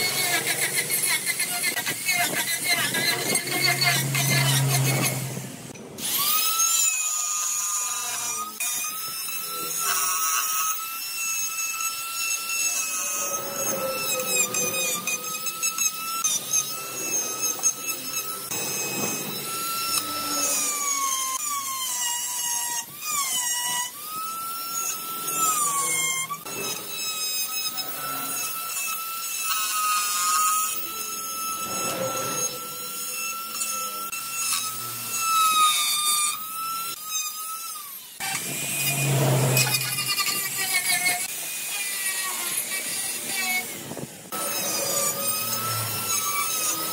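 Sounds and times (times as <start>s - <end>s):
die grinder cutting into wood: 0.0s - 46.9s.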